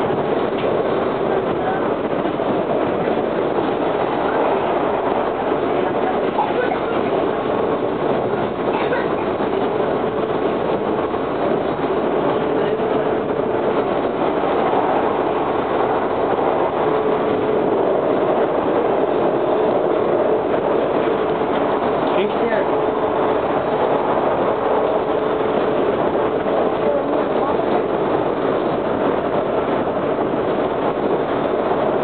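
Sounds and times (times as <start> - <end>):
train car rolling noise: 0.0 - 32.0.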